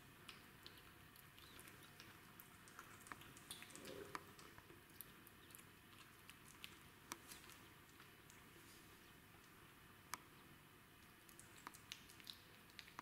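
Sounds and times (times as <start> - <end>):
kitten licking and chewing: 0.0 - 13.0.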